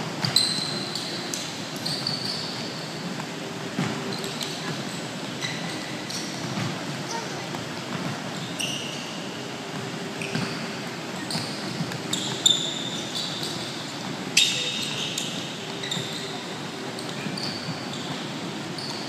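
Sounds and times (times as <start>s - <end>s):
shoe squeaks: 0.2s - 3.1s, 3.8s - 9.5s, 10.1s - 19.0s.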